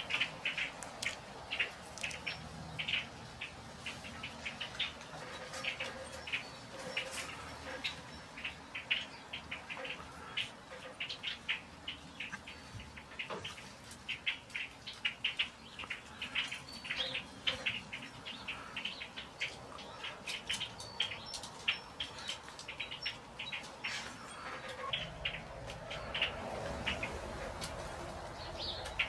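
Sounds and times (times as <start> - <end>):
blackbirds calling: 0.0 - 29.0.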